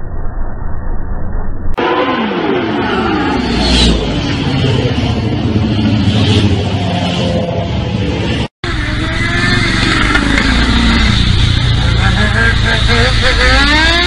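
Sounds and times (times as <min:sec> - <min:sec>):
motorcycle engine revving: 0:01.8 - 0:14.0.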